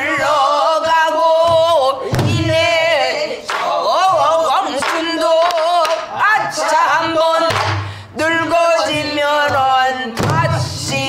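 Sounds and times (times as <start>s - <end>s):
barrel drum beats: 0.0s - 11.0s
woman singing with vibrato: 0.0s - 11.0s.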